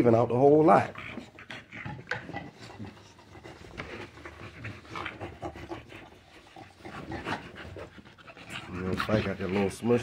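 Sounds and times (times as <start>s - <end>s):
dogs panting: 0.0s - 10.0s.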